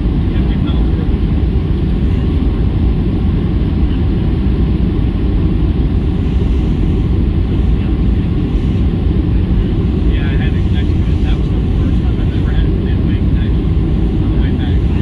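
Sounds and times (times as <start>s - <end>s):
jet cabin low rumble: 0.0s - 15.0s.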